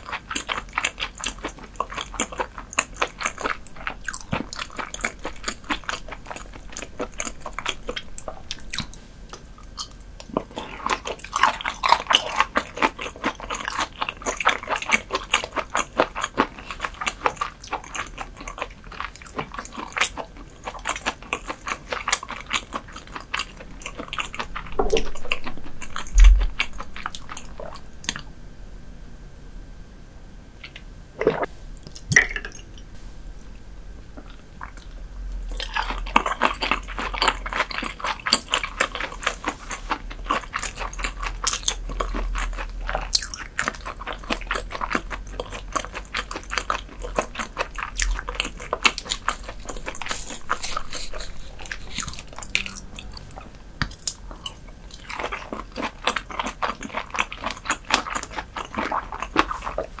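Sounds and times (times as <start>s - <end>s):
wet chewing and crunching: 0.0s - 28.3s, 34.0s - 60.0s.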